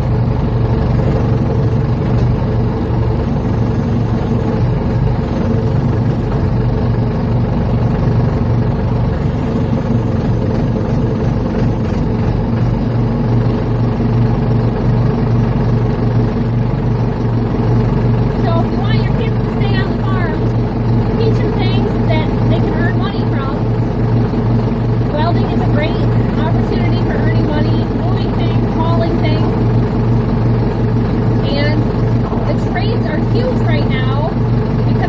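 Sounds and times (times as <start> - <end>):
engine droning steadily: 0.0 - 35.0.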